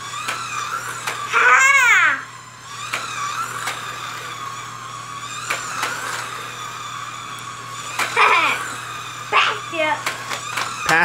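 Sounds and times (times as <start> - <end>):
slot car motors whining: 0.0 - 11.0.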